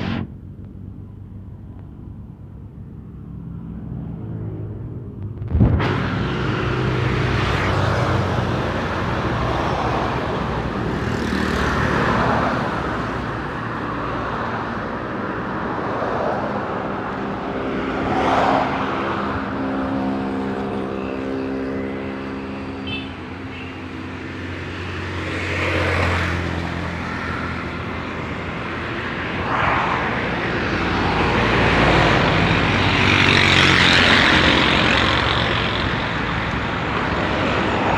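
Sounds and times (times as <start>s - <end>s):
engine hum: 0.0s - 22.7s, 23.5s - 37.9s
motor vehicles passing: 0.0s - 37.9s.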